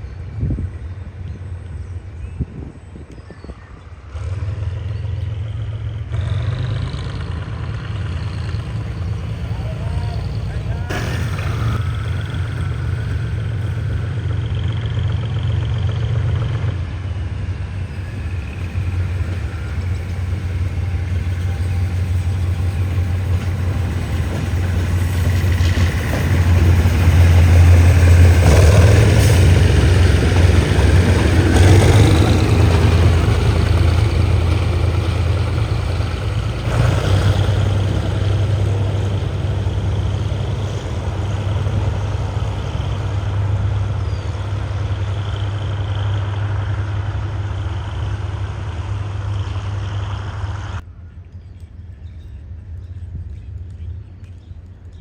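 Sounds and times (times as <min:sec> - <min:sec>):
diesel locomotive engine humming: 0:00.0 - 0:55.0.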